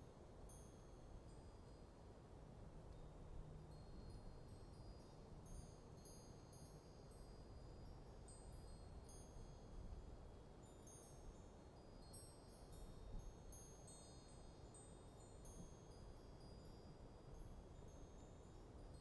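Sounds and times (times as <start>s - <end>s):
metal wind chimes tinkling: 2.9s - 19.0s.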